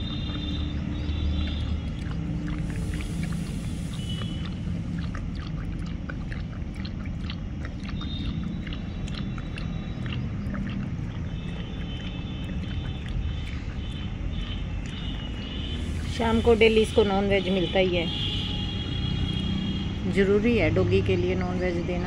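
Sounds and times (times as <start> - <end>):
dog lapping and chewing: 0.0 - 17.8.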